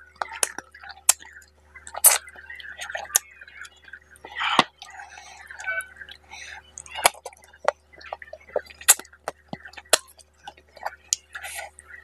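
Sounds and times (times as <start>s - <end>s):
chewing with wet mouth smacks: 0.0s - 12.0s.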